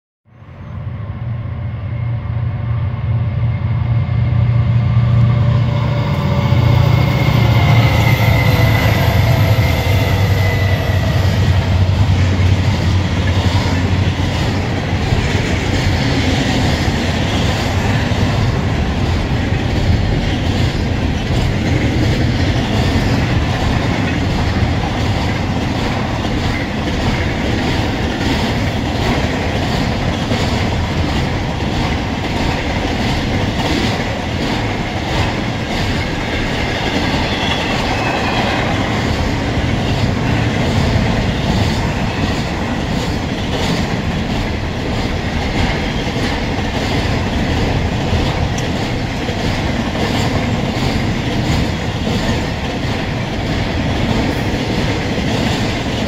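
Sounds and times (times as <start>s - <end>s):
locomotives rumbling past: 0.7s - 56.0s.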